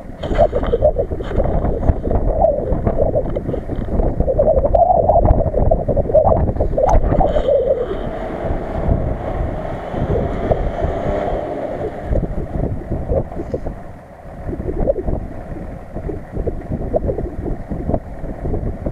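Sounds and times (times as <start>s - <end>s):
drone propellers droning: 0.0s - 18.9s
wind buffeting microphone: 0.0s - 18.9s.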